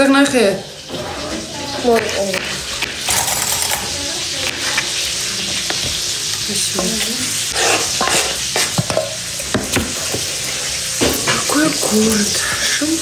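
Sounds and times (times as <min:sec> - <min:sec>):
food sizzling in pan: 0:00.0 - 0:13.0.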